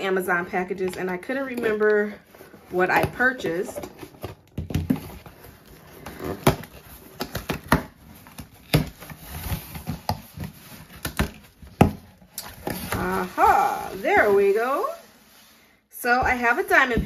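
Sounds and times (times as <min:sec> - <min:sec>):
crinkly plastic wrapping rustling: 0:00.0 - 0:15.2.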